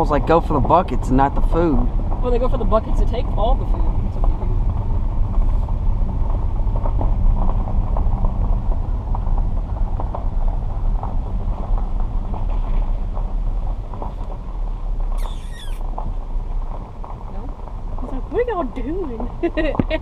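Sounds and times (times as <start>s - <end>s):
car rolling rumble from inside: 0.0s - 20.0s.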